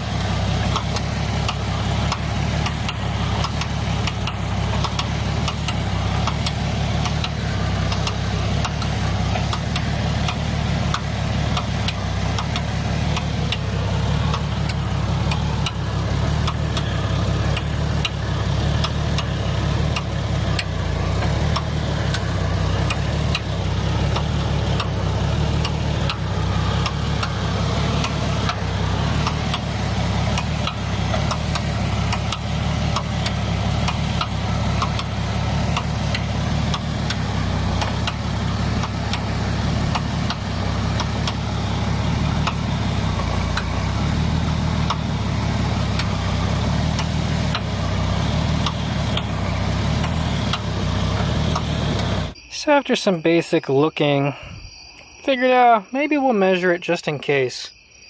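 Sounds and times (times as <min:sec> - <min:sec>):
car engine idling: 0:00.0 - 0:54.6.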